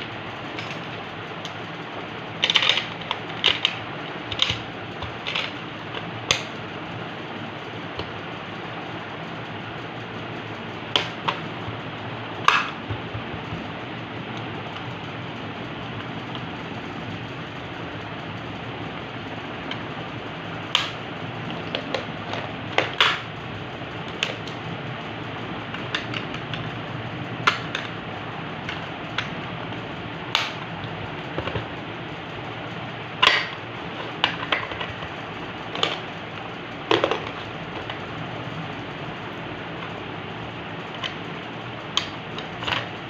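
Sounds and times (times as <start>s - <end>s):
steady background hiss: 0.0s - 43.0s.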